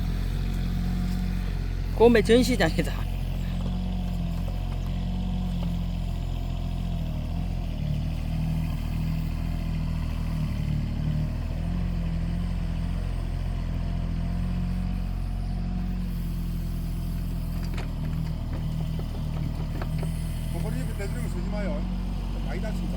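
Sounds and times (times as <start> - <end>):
excavator engine running: 0.0 - 22.9.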